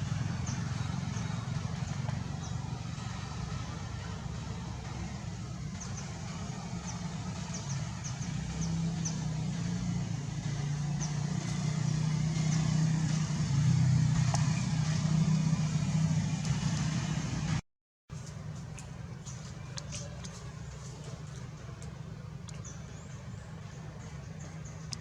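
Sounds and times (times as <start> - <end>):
low motor-like drone: 0.0 - 17.6, 18.3 - 25.0.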